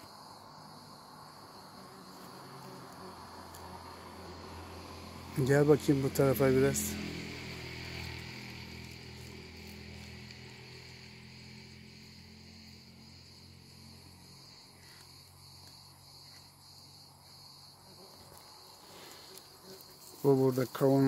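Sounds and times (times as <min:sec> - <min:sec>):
insect chirring: 0:00.0 - 0:21.0.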